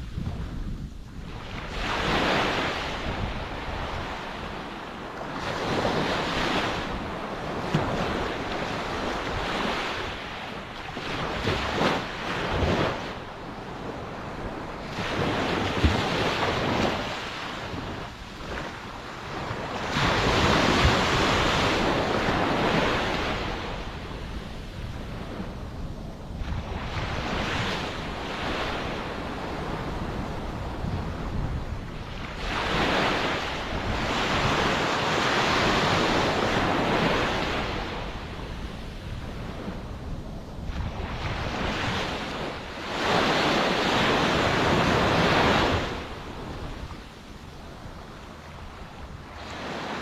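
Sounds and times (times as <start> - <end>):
ocean waves breaking on shore: 0.0 - 50.0.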